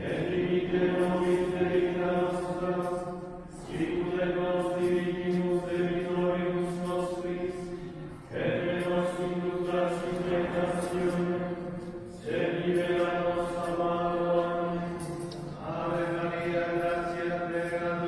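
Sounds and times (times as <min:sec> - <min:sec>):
liturgical chant: 0:00.0 - 0:18.0.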